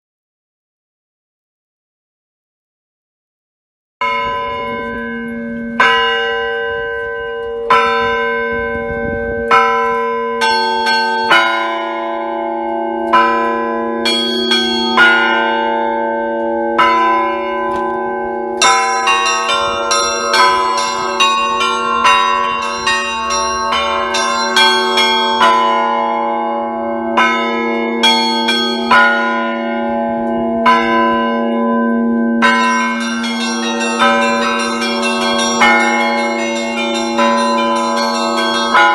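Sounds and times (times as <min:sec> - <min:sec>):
church bells ringing: 0:04.0 - 0:38.9.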